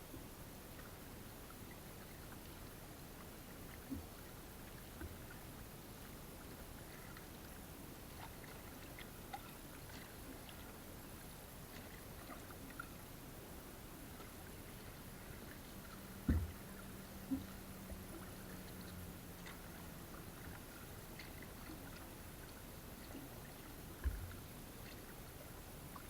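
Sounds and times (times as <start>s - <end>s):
water lapping and trickling: 0.0s - 26.0s.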